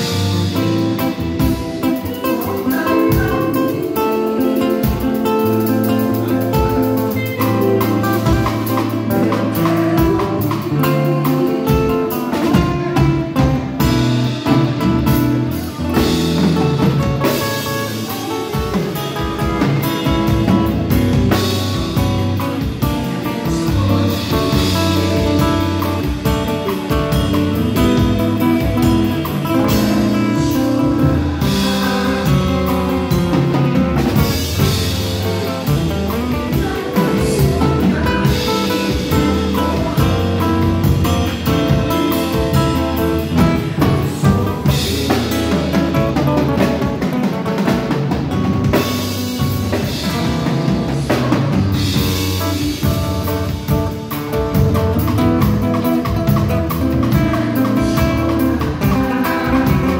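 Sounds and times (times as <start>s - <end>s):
bass: 0.0s - 59.9s
drums: 0.0s - 59.9s
nylon-string guitar melody: 0.0s - 59.9s.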